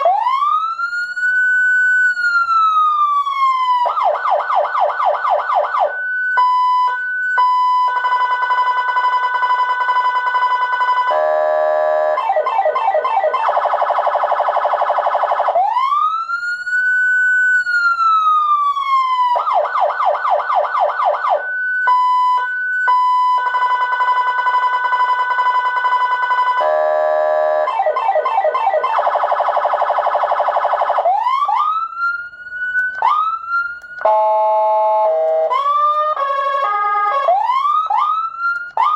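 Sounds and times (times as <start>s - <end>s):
electronic siren cycling tones: 0.0s - 38.9s
siren whoops: 0.0s - 38.9s.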